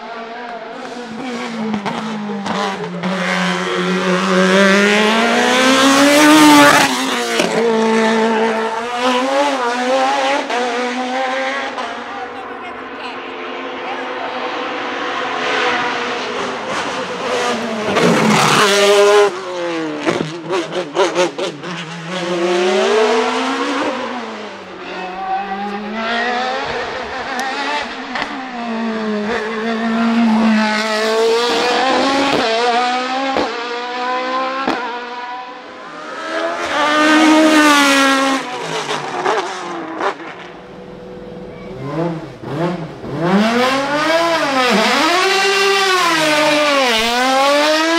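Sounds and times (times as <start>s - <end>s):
race car engines revving: 0.0s - 47.9s.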